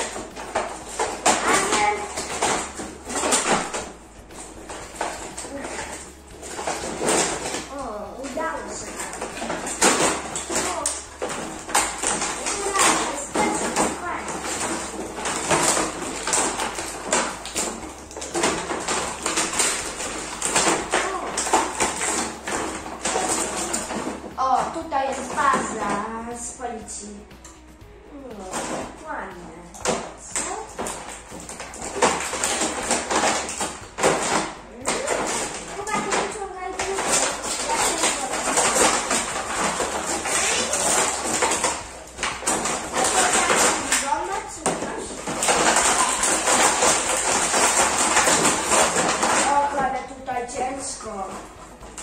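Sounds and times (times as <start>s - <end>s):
plastic pieces clicking: 0.0s - 26.1s, 27.3s - 52.0s
plastic packaging crinkling: 0.0s - 26.3s, 29.6s - 52.0s
plastic knocking on plastic: 0.0s - 52.0s.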